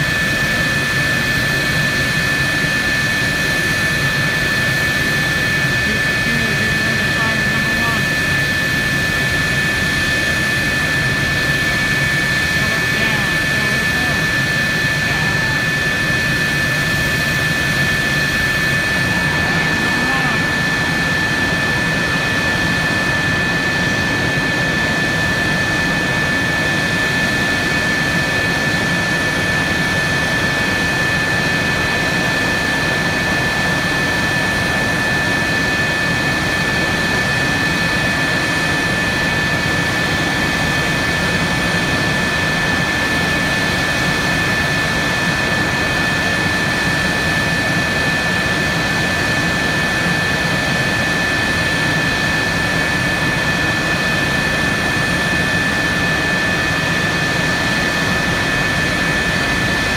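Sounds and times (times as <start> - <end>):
jet turbine idling: 0.0 - 59.9.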